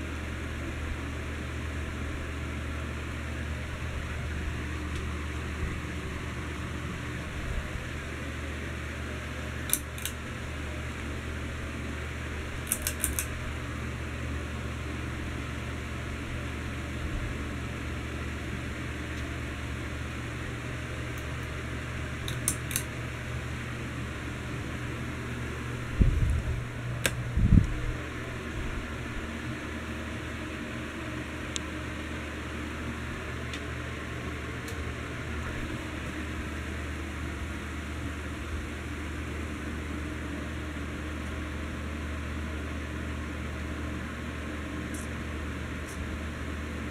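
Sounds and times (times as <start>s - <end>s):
ceiling fan humming: 0.0s - 46.9s.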